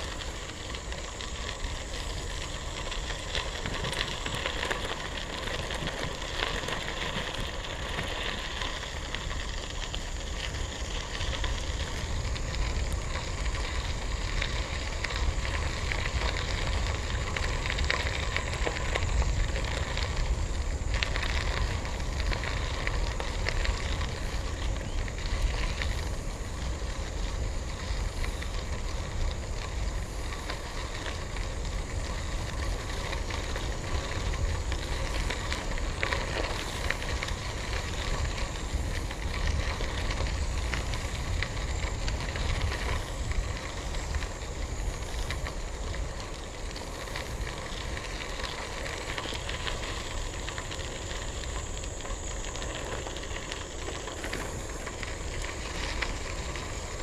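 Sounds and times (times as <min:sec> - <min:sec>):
bicycle tyres on gravel: 0:00.0 - 0:57.0
wind rumble on microphone: 0:00.0 - 0:57.0.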